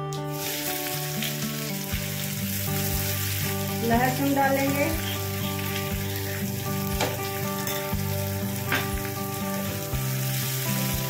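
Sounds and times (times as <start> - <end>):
onions sizzling in hot oil: 0.2 - 11.0.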